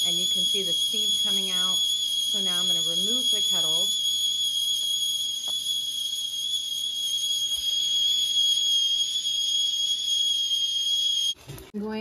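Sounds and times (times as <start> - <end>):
kettle whistling: 0.0 - 11.4.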